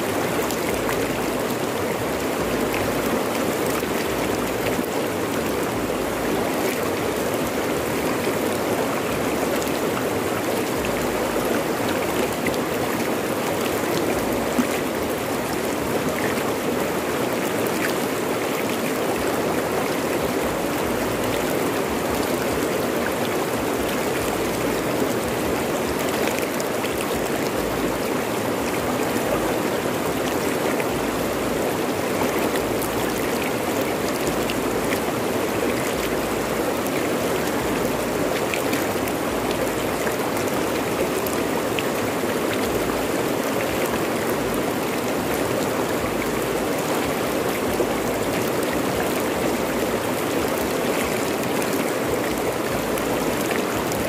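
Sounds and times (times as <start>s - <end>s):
river rushing over rocks: 0.0s - 54.0s
small water splashes: 0.0s - 54.0s.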